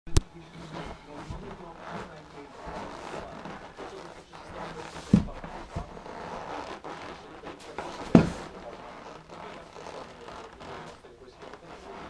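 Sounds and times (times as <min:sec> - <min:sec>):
snowboard thumping on carpet: 0:00.6 - 0:12.0.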